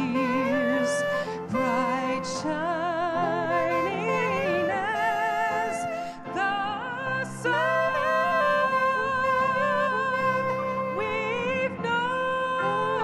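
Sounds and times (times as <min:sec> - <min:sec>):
sustained keyboard accompaniment: 0:00.0 - 0:13.0.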